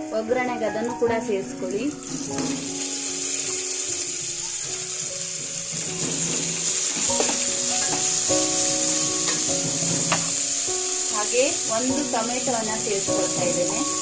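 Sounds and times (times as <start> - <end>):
instrumental background music: 0.0 - 14.0
onions sizzling in oil: 0.0 - 14.0.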